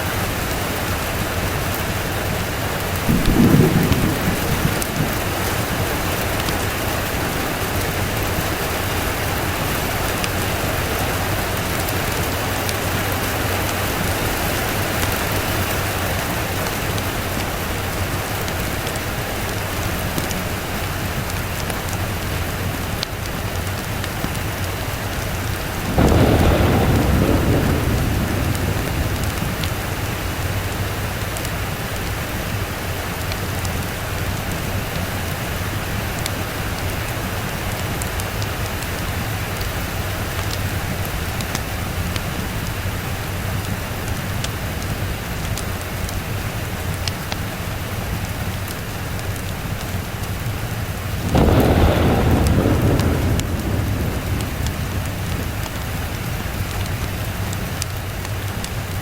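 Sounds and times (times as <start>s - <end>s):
thunder rumbling: 0.0s - 42.8s, 49.6s - 58.6s
heavy rain: 0.0s - 59.0s.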